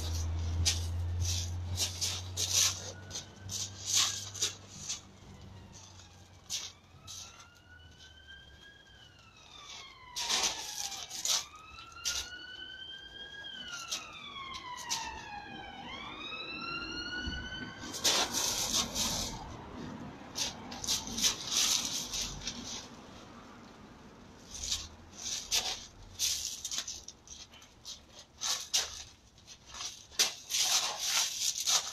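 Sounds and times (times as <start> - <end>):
emergency vehicle siren wailing: 0.0 - 31.9.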